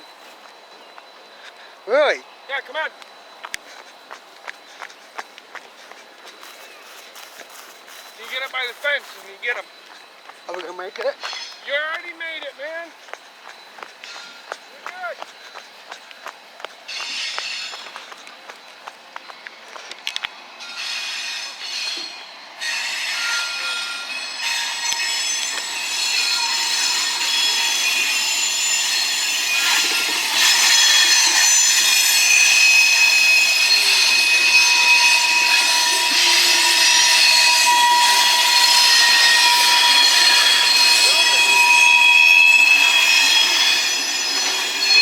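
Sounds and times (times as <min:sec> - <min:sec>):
train wheels squealing: 0:05.8 - 0:15.9, 0:16.9 - 0:18.3, 0:20.0 - 0:45.0.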